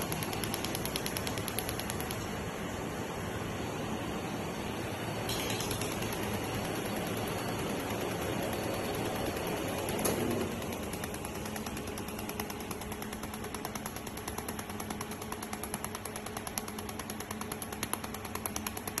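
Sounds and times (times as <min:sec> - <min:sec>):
laser welder sharp ticks: 0:00.0 - 0:02.4, 0:05.3 - 0:19.0
machine hum: 0:00.0 - 0:19.0.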